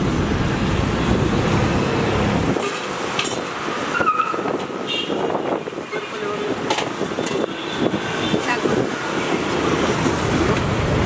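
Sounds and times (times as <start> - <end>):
road traffic rumbling: 0.0 - 11.0.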